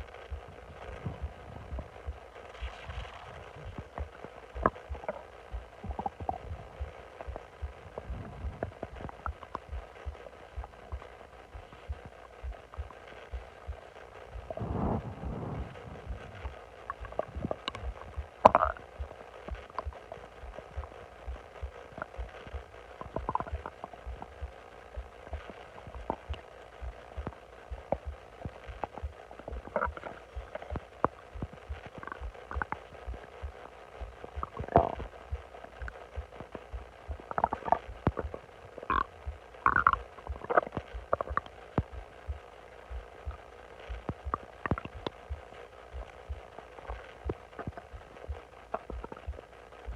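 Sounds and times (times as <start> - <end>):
faint low pulsing: 0.0 - 49.9
stomach growling and gurgling: 0.0 - 49.9.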